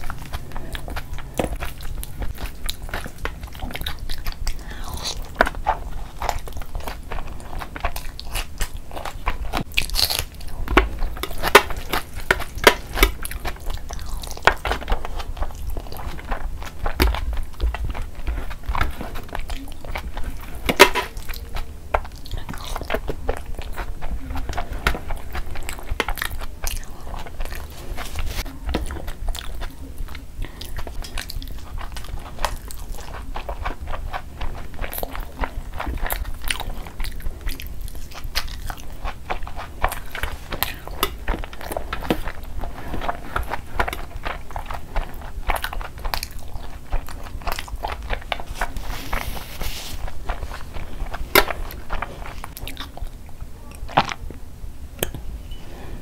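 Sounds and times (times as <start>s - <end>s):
wet chewing and mouth smacks: 0.0s - 54.4s.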